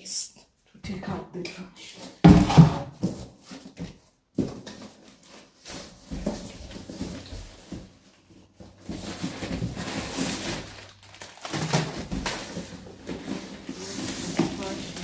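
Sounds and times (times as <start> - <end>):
papers and books rustling: 2.0 - 15.0.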